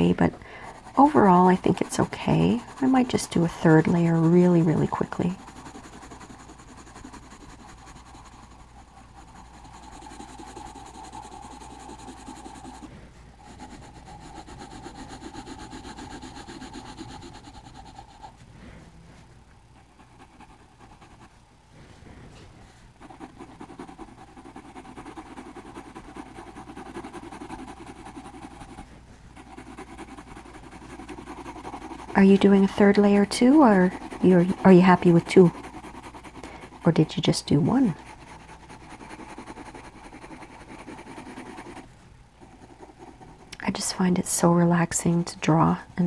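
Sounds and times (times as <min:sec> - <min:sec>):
pencil scratching on paper: 0:00.0 - 0:18.4, 0:19.8 - 0:21.4, 0:23.0 - 0:45.6.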